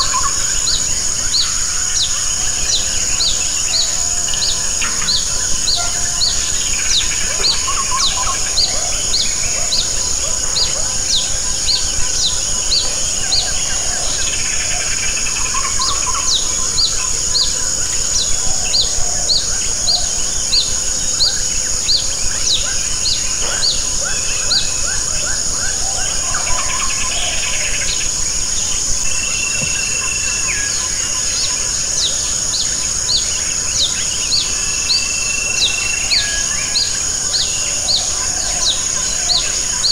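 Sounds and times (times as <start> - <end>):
insect high drone: 0.0 - 39.9.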